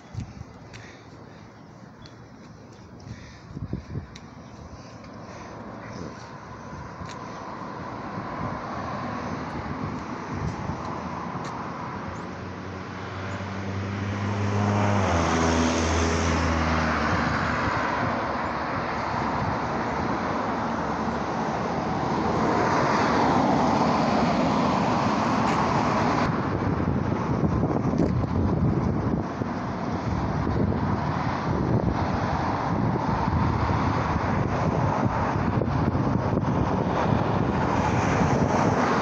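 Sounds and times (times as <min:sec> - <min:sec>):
tyre and road noise: 0:00.0 - 0:39.0
vehicle engine hum passing: 0:00.0 - 0:39.0.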